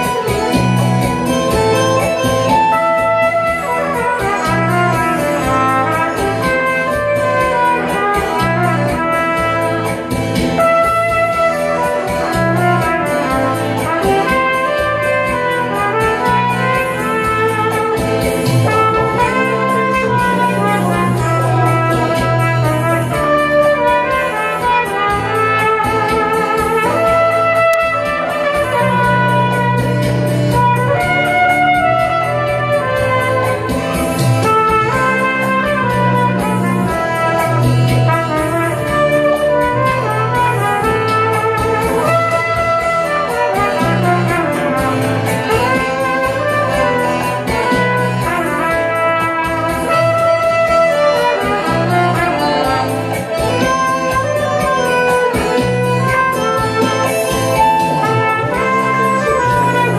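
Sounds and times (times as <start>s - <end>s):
trumpet melody: 0.0s - 59.9s.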